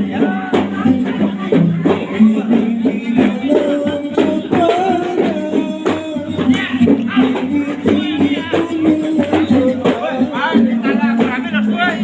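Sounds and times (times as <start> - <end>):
hand drum beat: 0.0 - 12.0.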